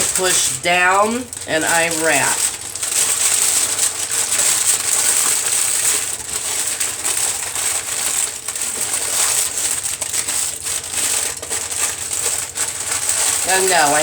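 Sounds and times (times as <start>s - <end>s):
foil and paper crinkling: 0.0s - 14.0s.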